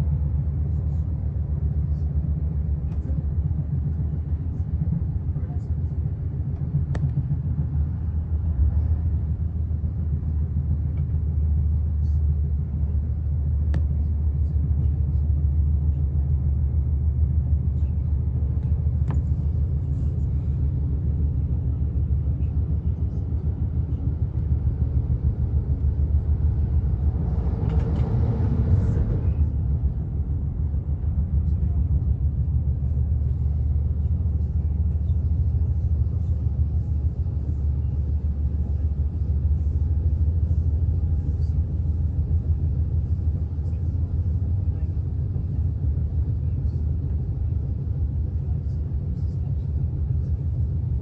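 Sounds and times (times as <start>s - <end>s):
train rumbling from inside carriage: 0.0s - 51.0s.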